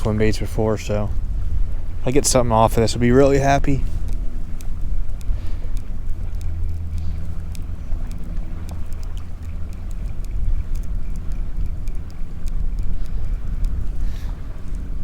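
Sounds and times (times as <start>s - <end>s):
light ticks: 0.0s - 15.0s
wind buffeting microphone: 0.0s - 15.0s.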